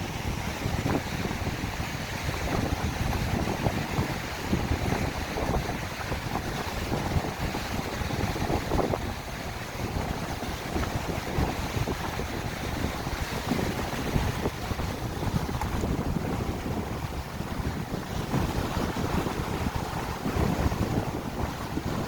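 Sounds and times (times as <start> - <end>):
strong wind buffeting microphone: 0.0 - 22.0
waves breaking on shore: 0.0 - 22.0.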